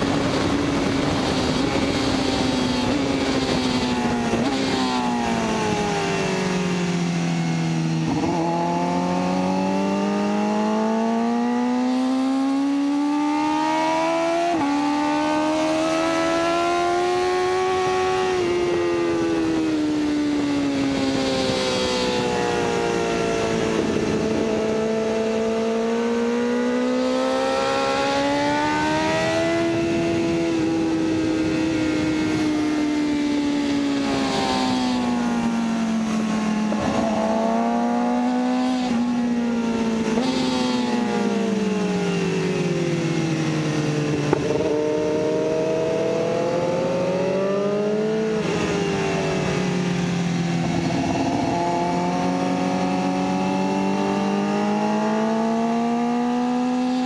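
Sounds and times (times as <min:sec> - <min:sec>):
wind rushing over microphone: 0:00.0 - 0:10.9, 0:13.8 - 0:25.9, 0:27.8 - 0:54.3
motorcycle engine revving: 0:00.0 - 0:57.0.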